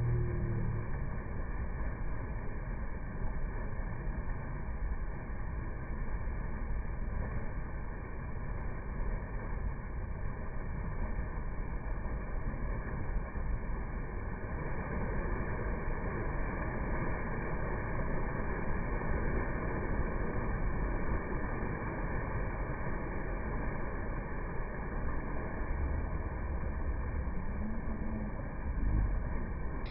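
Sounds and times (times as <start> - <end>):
water rushing at small waterfall: 0.0 - 29.9.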